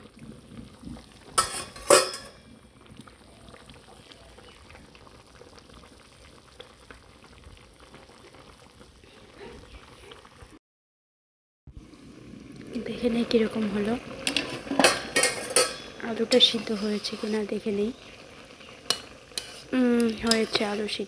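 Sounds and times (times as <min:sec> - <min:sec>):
curry simmering bubbling crackle: 0:00.0 - 0:10.6, 0:11.7 - 0:21.0.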